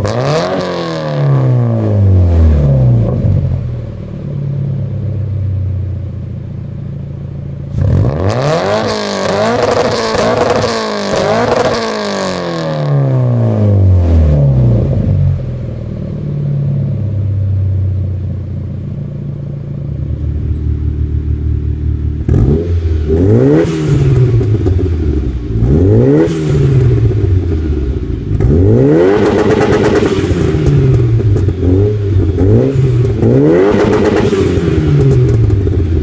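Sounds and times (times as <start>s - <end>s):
car engine revving: 0.0s - 5.2s, 7.6s - 18.2s, 19.4s - 36.0s.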